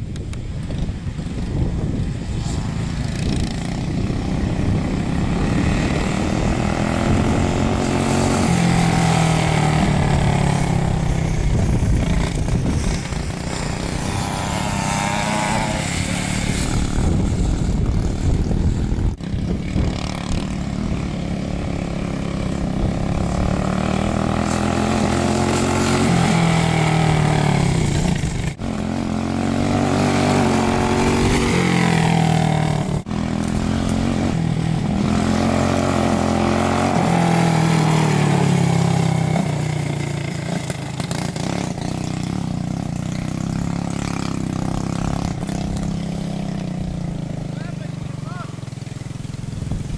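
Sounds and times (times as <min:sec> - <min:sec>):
go-kart engine revving: 0:00.8 - 0:49.9.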